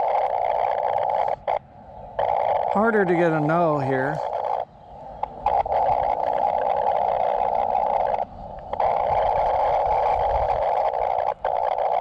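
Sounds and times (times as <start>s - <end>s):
radio interference rushing noise: 0.0s - 12.0s.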